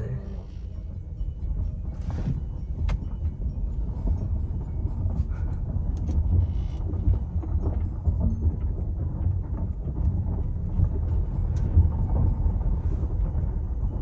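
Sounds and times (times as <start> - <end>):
car engine and road rumble: 0.0 - 14.0
small clicks and rattles: 0.4 - 14.0.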